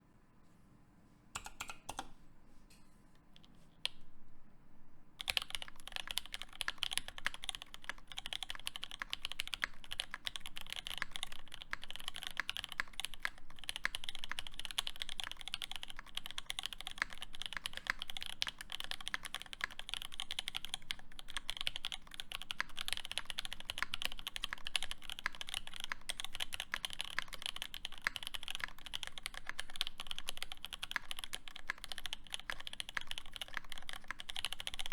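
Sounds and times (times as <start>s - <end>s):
typing on mechanical keyboard: 5.2s - 34.9s.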